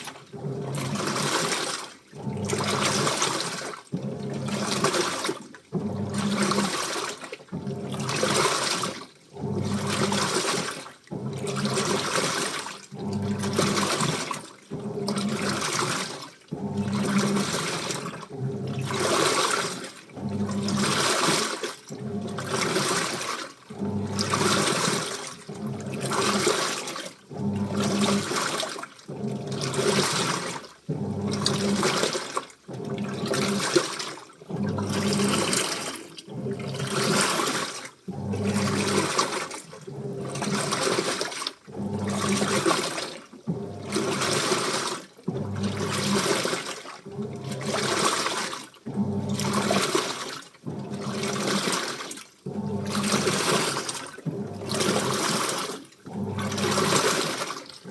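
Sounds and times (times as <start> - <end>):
washing machine drum sloshing: 0.0 - 57.9
washing machine motor hum: 0.0 - 57.9.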